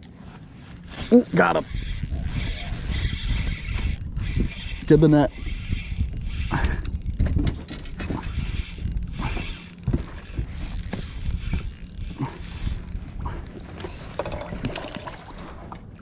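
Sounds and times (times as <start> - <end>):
fishing reel whirring: 0.6 - 15.3.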